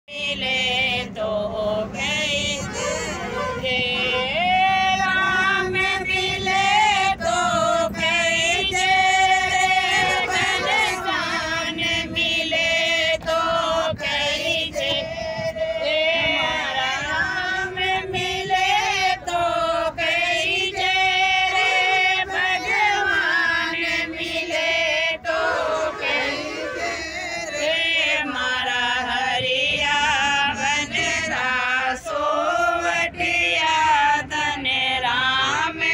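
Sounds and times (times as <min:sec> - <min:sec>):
women singing together: 0:00.1 - 0:35.9.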